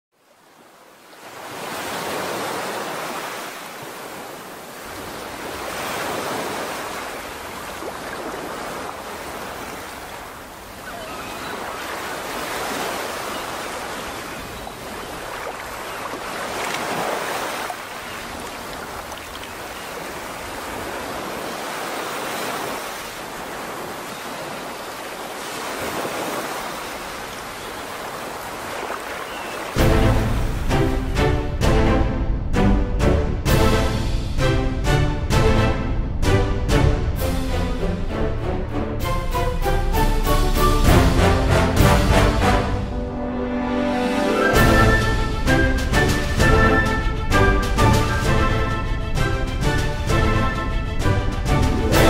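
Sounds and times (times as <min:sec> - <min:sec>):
ocean waves washing in: 0:00.2 - 0:52.0.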